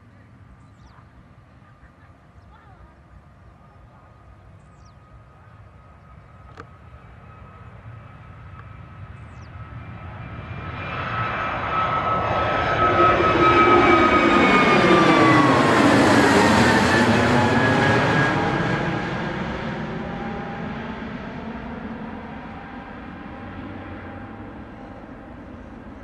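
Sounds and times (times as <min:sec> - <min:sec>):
jet taking off overhead: 0:03.1 - 0:26.0.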